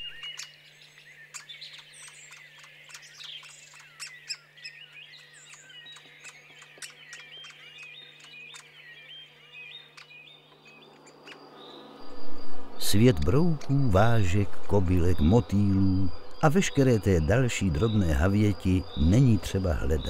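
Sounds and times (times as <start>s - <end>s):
woodpecker nestling chirping: 0.0s - 20.0s.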